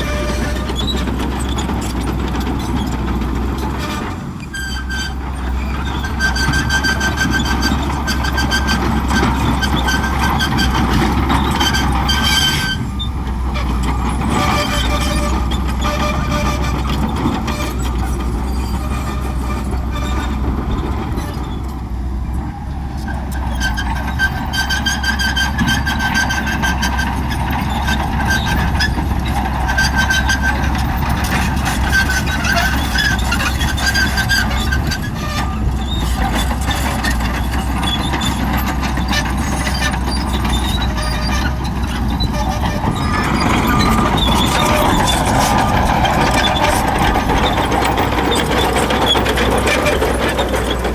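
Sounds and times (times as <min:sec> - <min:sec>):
bulldozer diesel engine running: 0:00.0 - 0:50.9
metallic squeal from tracks: 0:00.0 - 0:50.9.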